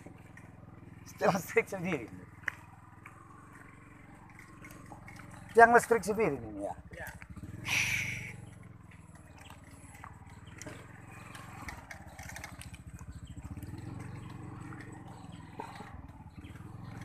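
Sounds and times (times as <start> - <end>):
small motorcycle engine putter: 0.0 - 17.0.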